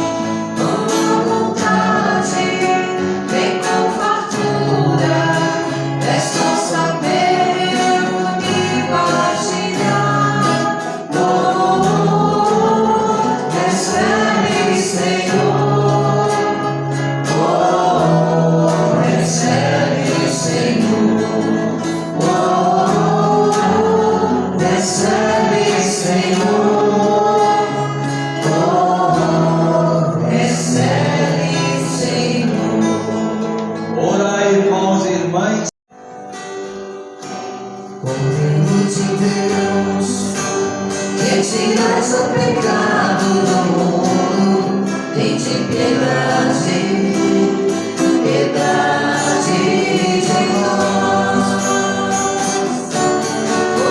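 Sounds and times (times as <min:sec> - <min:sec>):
choir singing a hymn: 0:00.0 - 0:34.8, 0:38.0 - 0:53.9.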